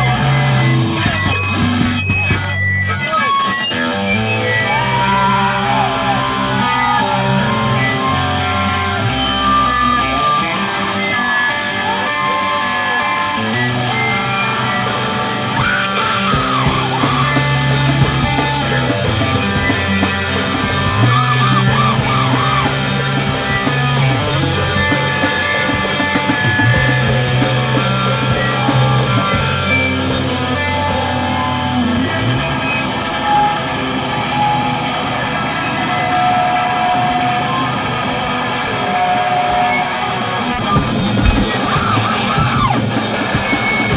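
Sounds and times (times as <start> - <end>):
bass guitar low notes: 0.0 - 11.3, 13.2 - 36.4, 40.2 - 43.9
electric guitars: 0.0 - 43.9.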